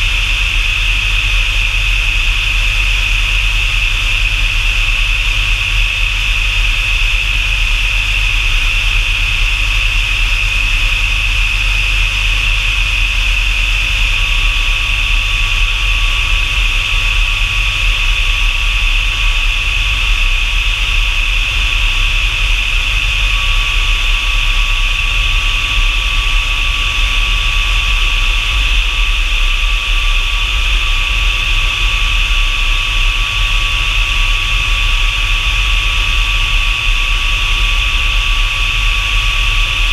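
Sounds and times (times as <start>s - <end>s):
jet engine whine and rumble: 0.0s - 39.9s.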